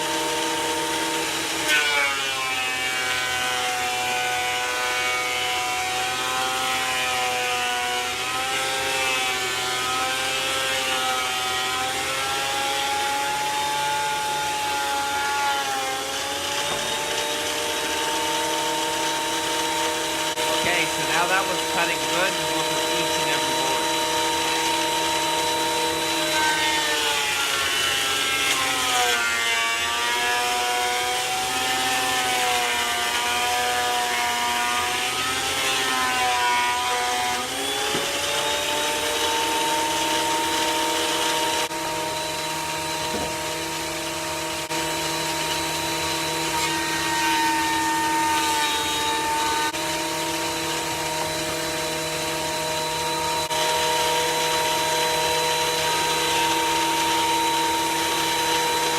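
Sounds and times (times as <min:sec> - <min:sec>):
planer motor whine: 0:00.0 - 0:58.9.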